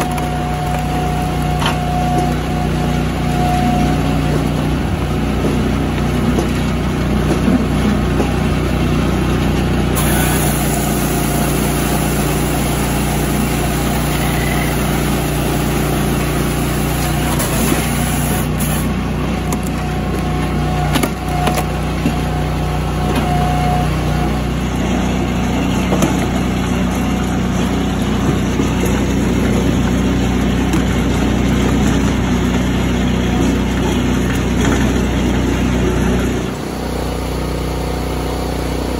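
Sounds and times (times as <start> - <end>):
firewood processor engine drone: 0.0 - 38.9.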